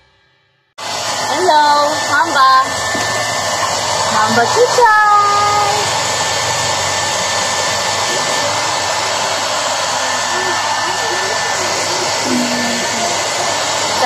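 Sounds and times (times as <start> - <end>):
hair dryer blowing: 0.8 - 14.0.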